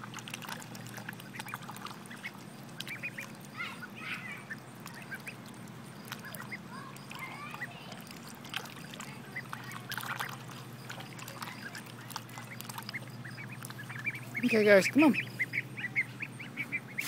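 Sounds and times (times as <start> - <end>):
ducklings peeping: 0.0 - 17.0
ducks quacking softly: 0.5 - 17.0.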